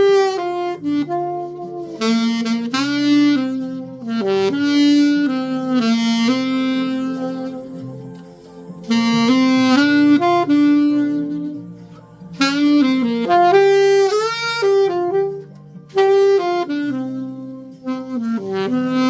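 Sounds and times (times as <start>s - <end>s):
alto saxophone slow melody: 0.0s - 19.0s.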